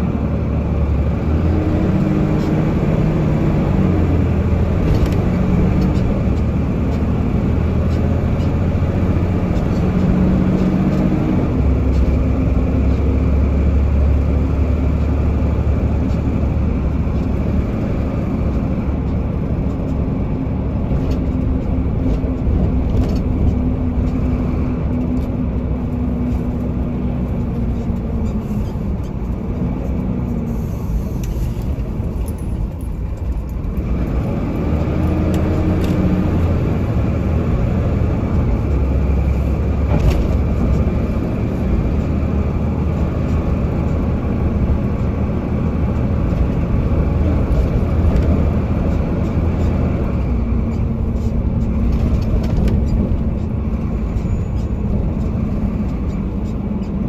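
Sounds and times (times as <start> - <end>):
road noise: 0.0 - 57.0
vehicle engine hum: 0.0 - 57.0.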